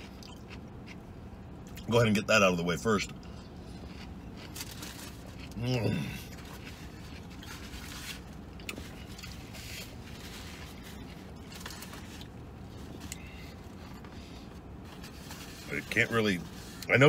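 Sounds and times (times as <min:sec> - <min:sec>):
man chewing: 0:00.0 - 0:01.9, 0:03.1 - 0:15.7.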